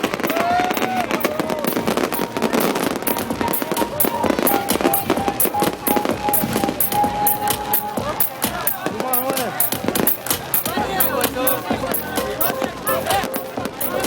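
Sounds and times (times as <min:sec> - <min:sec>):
fireworks cracking and banging: 0:00.0 - 0:14.0
music playing: 0:00.0 - 0:14.0.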